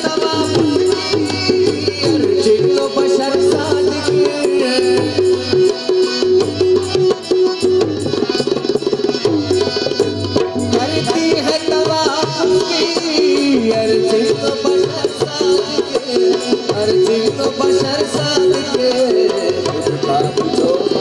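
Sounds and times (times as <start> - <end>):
harmonium melody: 0.0 - 21.0
tabla rhythm: 0.0 - 21.0.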